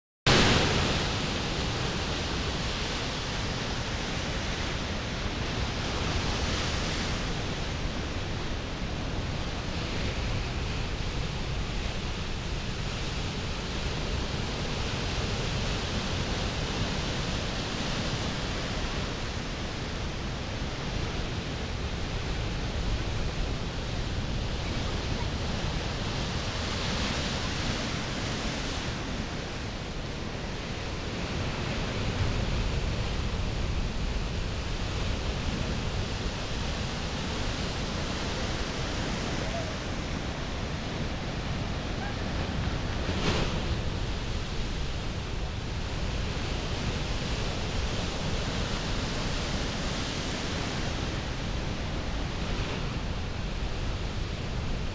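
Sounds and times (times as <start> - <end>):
steady rushing noise: 0.3 - 54.9.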